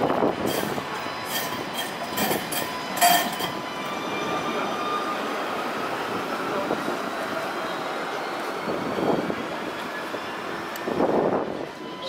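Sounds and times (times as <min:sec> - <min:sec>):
tram motor whine rising: 0:00.0 - 0:12.0
tram running on rails: 0:00.0 - 0:12.0.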